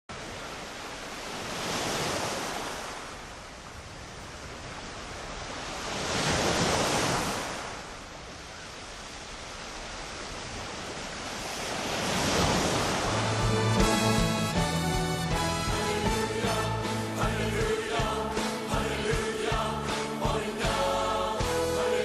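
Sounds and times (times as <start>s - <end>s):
ocean waves washing in: 0.1s - 22.0s.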